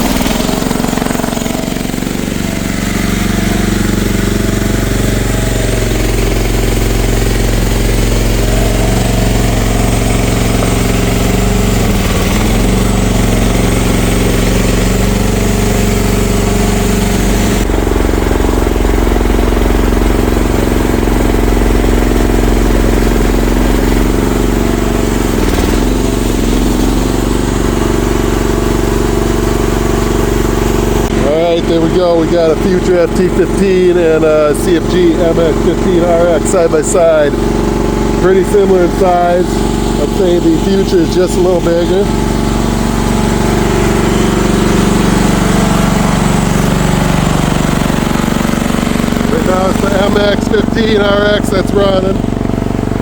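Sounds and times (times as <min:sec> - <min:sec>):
excavator engine clattering: 0:00.0 - 0:53.0.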